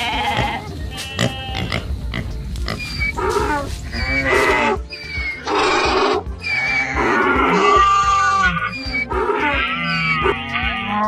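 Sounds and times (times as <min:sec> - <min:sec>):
animal calls: 0:00.0 - 0:11.0
background music: 0:00.0 - 0:11.0.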